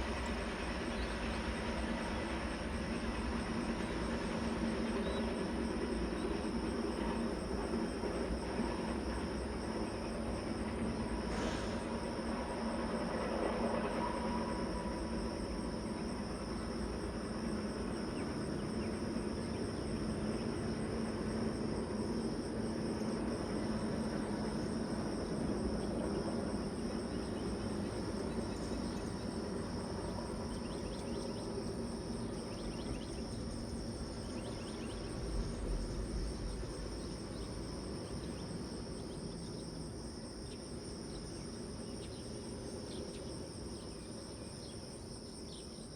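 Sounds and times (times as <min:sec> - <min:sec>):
insects trilling: 0:00.0 - 0:45.9
train passing rumble: 0:00.0 - 0:45.9.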